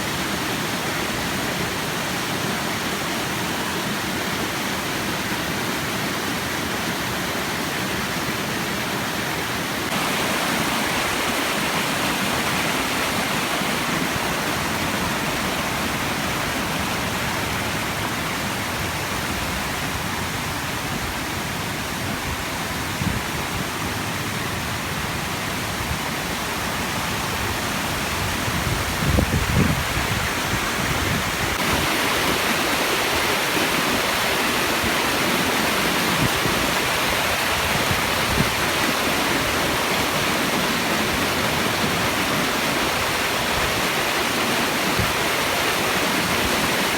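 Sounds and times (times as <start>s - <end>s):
water rushing over waterfall: 0.0s - 46.9s.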